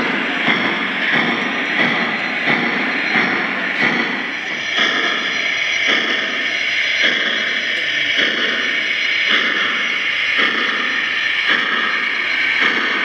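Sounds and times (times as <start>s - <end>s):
model steam locomotive chuffing: 0.0s - 13.0s
model train running on track: 0.0s - 13.0s.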